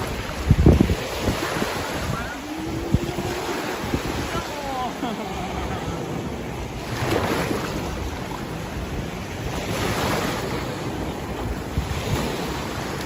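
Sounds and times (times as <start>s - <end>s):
sea waves washing on beach: 0.0s - 13.0s
wind buffeting microphone: 0.0s - 13.0s.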